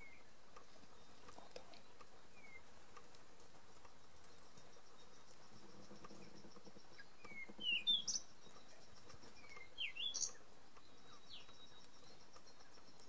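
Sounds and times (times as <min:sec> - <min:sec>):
faint insect trill: 0:00.0 - 0:13.0
songbird chirping: 0:00.0 - 0:13.0.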